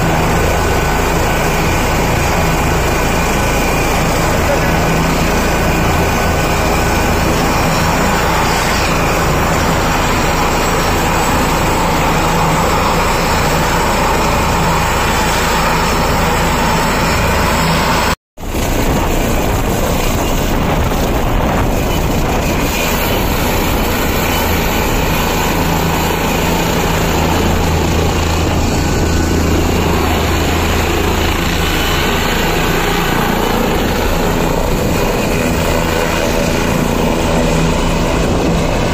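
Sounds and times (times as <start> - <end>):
helicopter rotor and turbine noise: 0.0 - 38.9.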